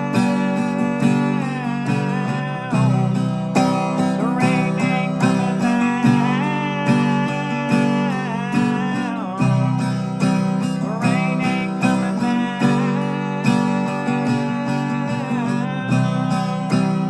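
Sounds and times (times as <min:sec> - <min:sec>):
acoustic guitar strumming: 0:00.0 - 0:17.0
bending lead guitar melody: 0:00.0 - 0:17.0.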